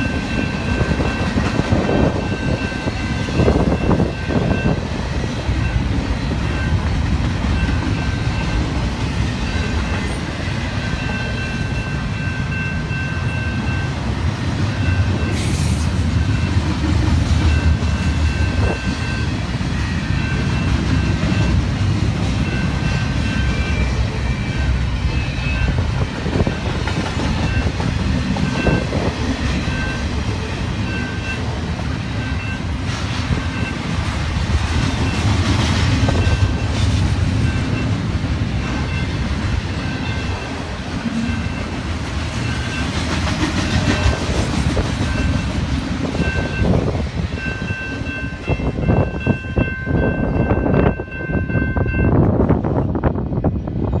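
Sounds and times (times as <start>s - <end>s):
train wheel clatter: 0.0s - 13.7s, 14.6s - 52.8s
freight train rumbling: 0.0s - 54.0s.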